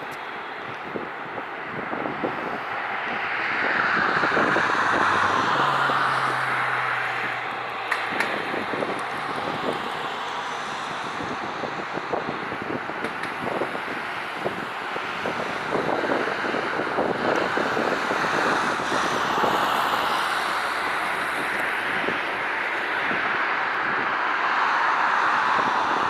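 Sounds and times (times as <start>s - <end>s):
jet engines running: 0.0s - 26.0s
wind buffeting microphone: 0.0s - 26.0s.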